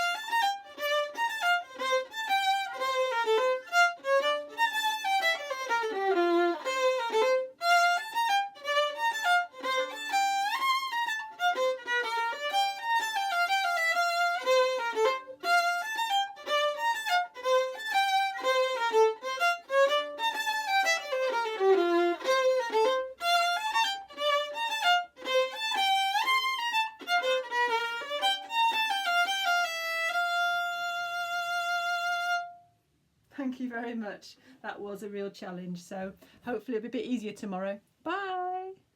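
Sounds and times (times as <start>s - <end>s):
solo fiddle melody: 0.0s - 32.8s.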